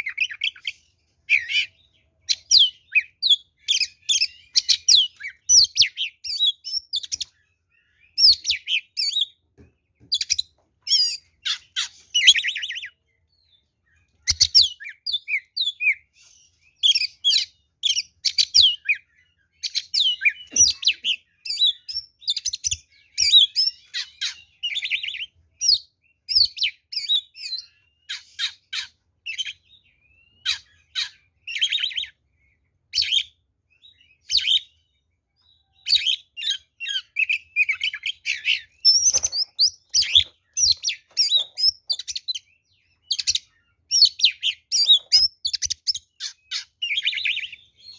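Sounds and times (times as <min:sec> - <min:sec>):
magpie-robin singing: 0:00.0 - 0:47.9.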